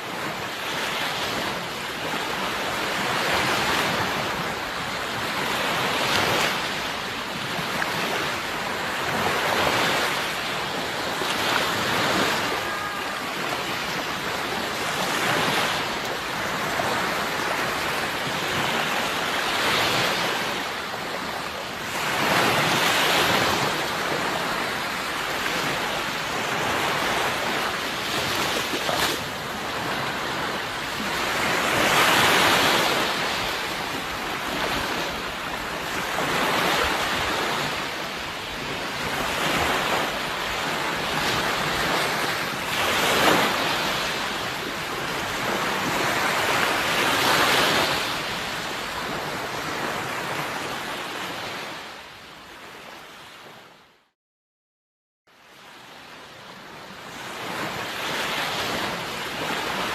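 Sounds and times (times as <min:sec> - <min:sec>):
sea waves breaking on shore: 0:00.0 - 0:53.9, 0:55.3 - 0:59.9.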